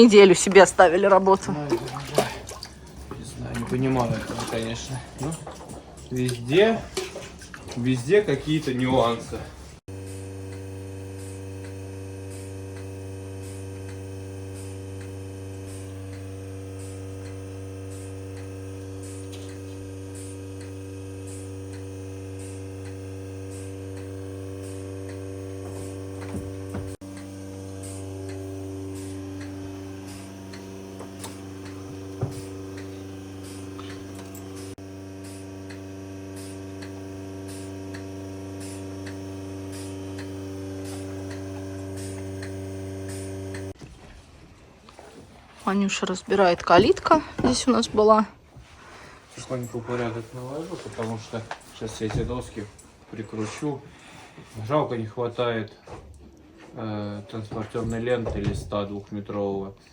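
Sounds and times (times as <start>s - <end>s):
mechanical hum: 0.0s - 59.9s.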